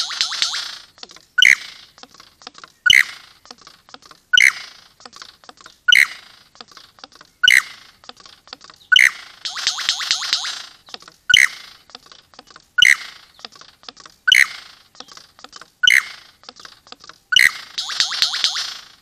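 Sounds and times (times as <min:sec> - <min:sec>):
lyrebird calls and clicks: 0:00.0 - 0:19.0.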